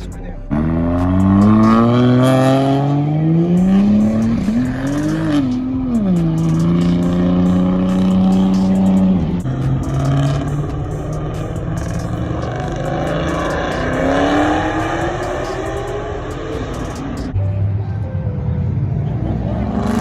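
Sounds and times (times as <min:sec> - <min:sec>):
car engine revving: 0:00.0 - 0:17.8, 0:18.4 - 0:20.0.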